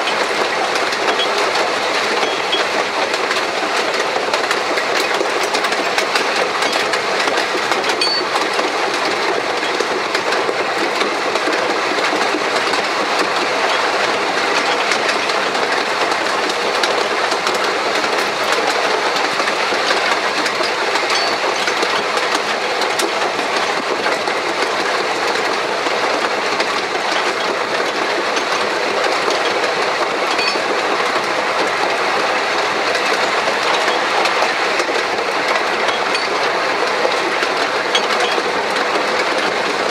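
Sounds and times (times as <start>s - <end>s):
train wheels clattering on rail: 0.0s - 39.9s.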